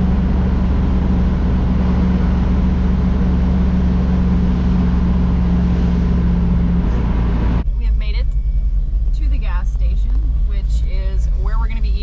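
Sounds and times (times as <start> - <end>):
constant hum: 0.0 - 12.0
truck engine and road rumble: 0.0 - 12.0.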